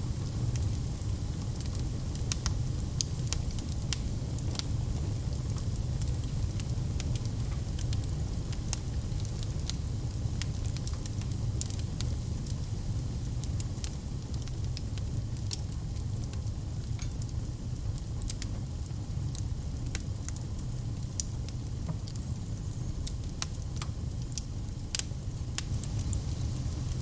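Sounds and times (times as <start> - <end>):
low rumble of burning: 0.0 - 27.0
wood fire crackling: 0.0 - 27.0.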